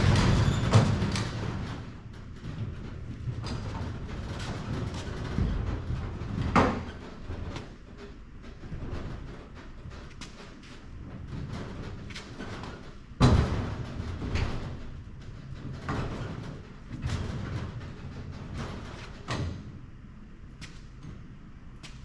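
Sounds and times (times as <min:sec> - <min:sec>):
tool cabinet casters rumbling on concrete: 0:00.0 - 0:21.7.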